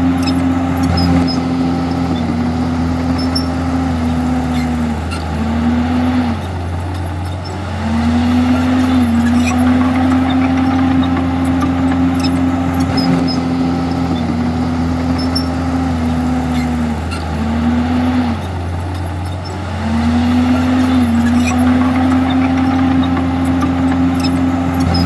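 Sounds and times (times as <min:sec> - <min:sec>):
bulldozer diesel engine working: 0:00.0 - 0:25.0.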